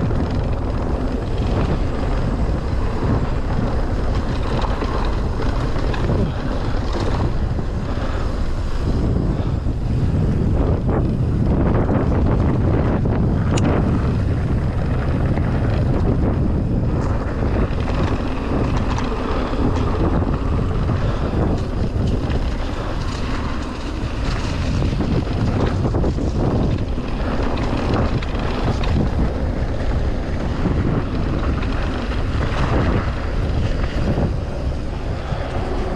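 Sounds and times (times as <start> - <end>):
bike knocks and rattles: 0.0 - 35.9
tyres rolling on dirt trail: 0.0 - 35.9
wind buffeting microphone: 0.0 - 35.9.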